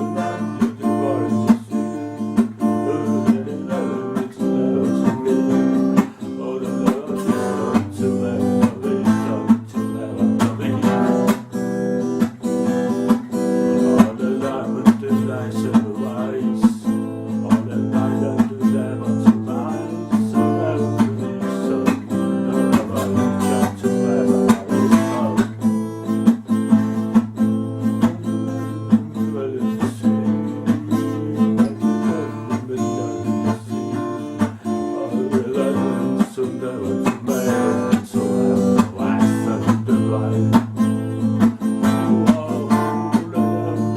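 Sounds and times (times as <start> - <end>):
acoustic guitar strumming: 0.0 - 43.9.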